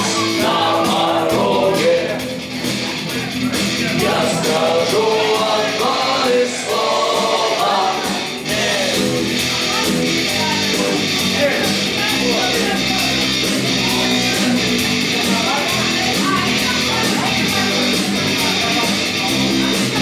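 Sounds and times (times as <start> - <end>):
steady drum beat: 0.0 - 20.0
strummed guitars: 0.0 - 20.0.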